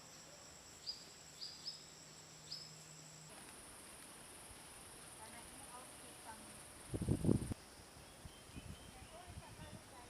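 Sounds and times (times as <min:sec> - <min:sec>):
insect trill: 0:00.0 - 0:09.0.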